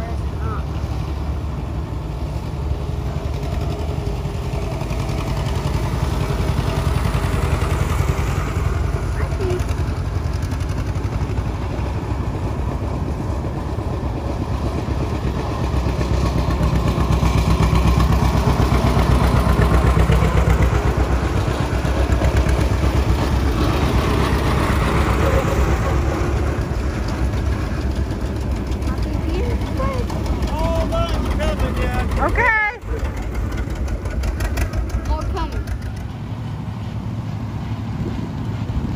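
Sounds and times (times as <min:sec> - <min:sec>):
tractor engine passing: 0:00.0 - 0:38.9.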